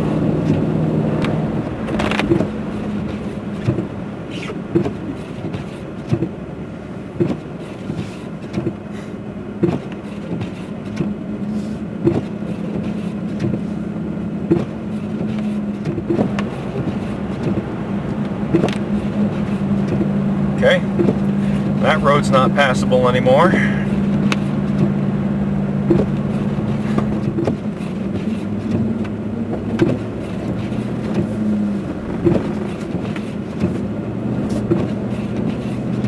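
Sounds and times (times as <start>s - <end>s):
engine and road hum: 0.0s - 36.0s.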